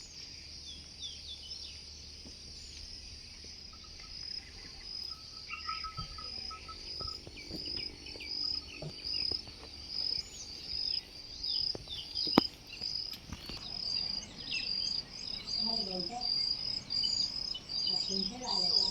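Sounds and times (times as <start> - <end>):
bird chirps: 0.0 - 18.9
crickets chirping: 0.0 - 18.9.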